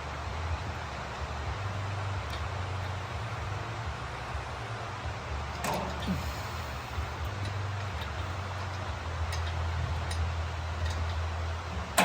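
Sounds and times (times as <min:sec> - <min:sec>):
constant hiss: 0:00.0 - 0:12.0.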